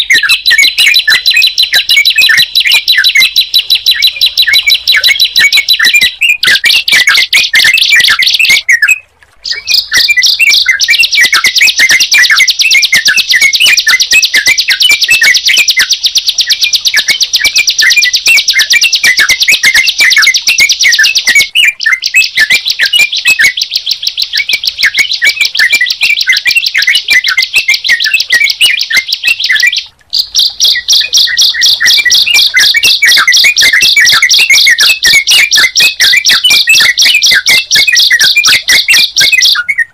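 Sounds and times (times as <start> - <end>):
rapid high bird trill: 0.0 - 39.9
short bird chirps: 0.0 - 39.9.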